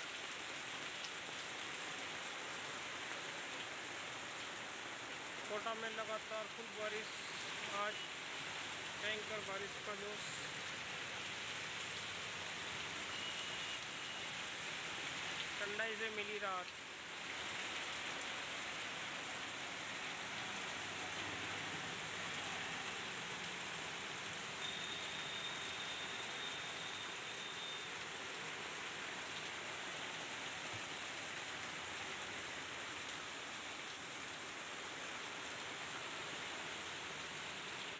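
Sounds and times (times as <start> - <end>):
heavy rain on road: 0.0 - 37.9.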